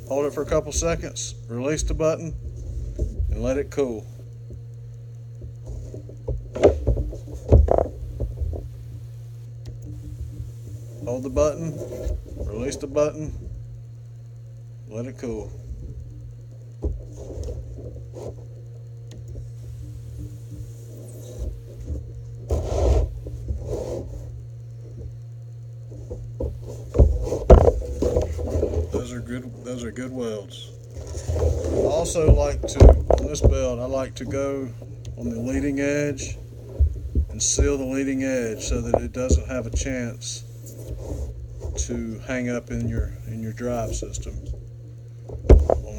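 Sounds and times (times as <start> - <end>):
steady low hum: 0.0 - 45.9
ultrasonic welder knocks and buzzes: 0.0 - 45.9.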